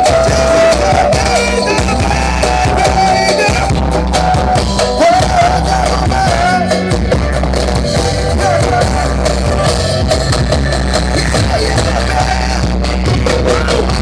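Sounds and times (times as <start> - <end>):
loud bass-heavy music on loudspeakers: 0.0 - 14.0.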